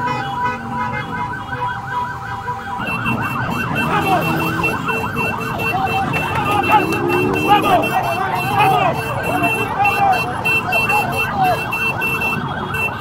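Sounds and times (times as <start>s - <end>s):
siren wailing: 0.0s - 13.0s
siren yelping: 0.2s - 13.0s.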